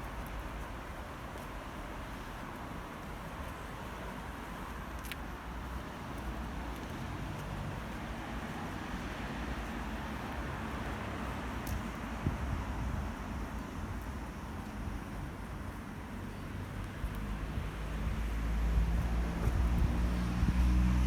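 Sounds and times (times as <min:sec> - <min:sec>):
road traffic rumble: 0:01.5 - 0:21.0.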